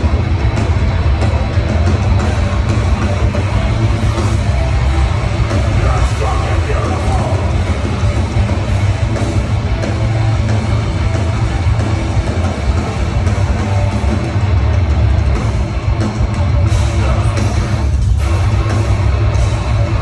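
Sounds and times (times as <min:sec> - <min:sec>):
live heavy rock band: 0:00.0 - 0:20.0.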